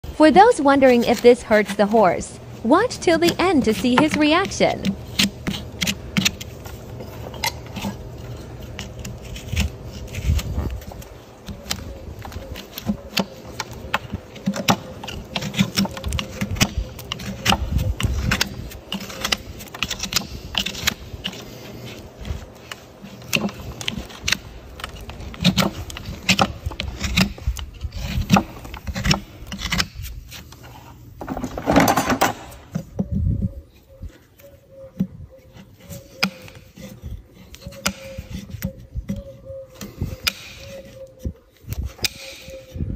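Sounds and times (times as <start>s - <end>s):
metal tools scraping horse hoof: 0.2s - 32.8s, 35.4s - 42.8s.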